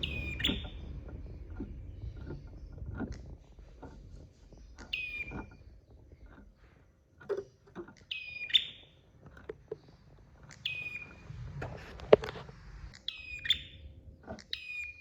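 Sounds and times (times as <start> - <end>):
songbird calling: 0.0 - 6.8, 7.4 - 11.4, 12.9 - 15.0
soft clicks and knocks: 0.0 - 13.1.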